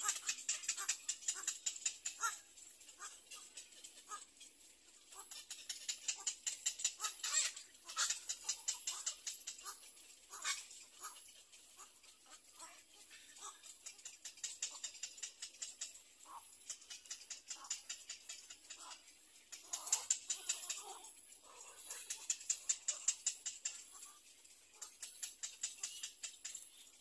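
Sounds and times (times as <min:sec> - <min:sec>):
birds ticking chatter: 0:00.0 - 0:27.0.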